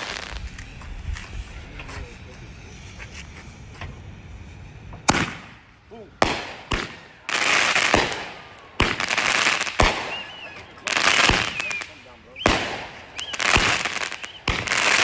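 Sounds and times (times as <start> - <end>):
firework bangs: 0.0 - 15.0
fireworks crackling: 0.0 - 15.0.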